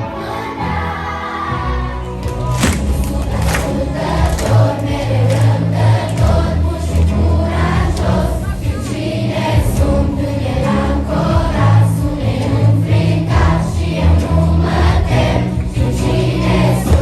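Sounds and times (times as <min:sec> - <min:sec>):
children singing in chorus: 0:00.0 - 0:17.0
accompaniment with strong bass: 0:01.8 - 0:17.0.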